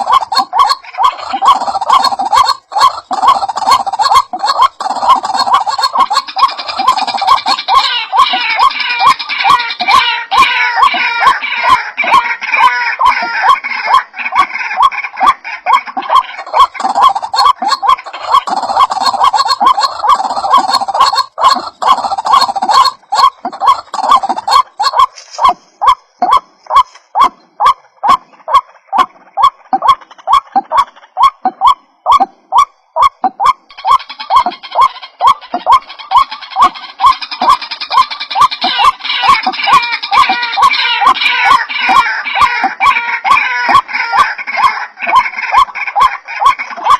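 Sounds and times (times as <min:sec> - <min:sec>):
waterhen croaking calls: 0:00.0 - 0:46.9.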